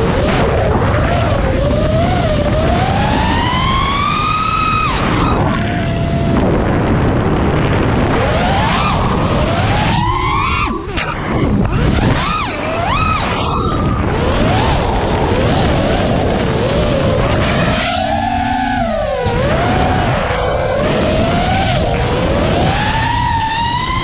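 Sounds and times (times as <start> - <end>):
quadcopter motors whining: 0.0 - 24.0
wind rumble: 0.0 - 24.0.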